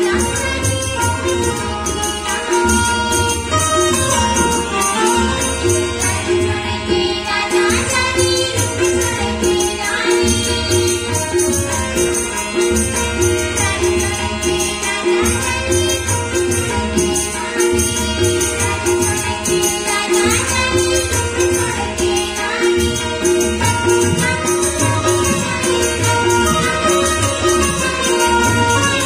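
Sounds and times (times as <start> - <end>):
hand drums: 0.0 - 29.0
jingling percussion: 0.0 - 29.0.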